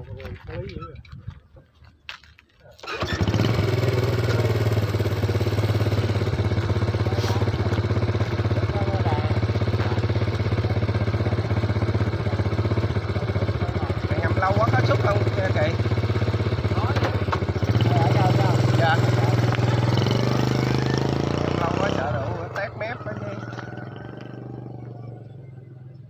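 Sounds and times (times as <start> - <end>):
motor engine running: 2.9 - 26.0.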